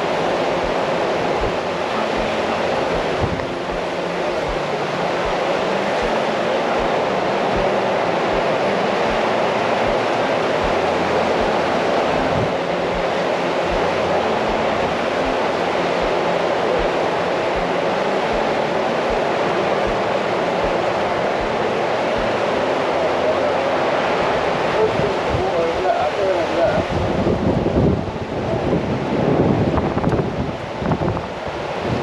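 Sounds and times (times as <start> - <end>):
strong wind on microphone: 0.0 - 32.0
surf washing: 0.0 - 32.0.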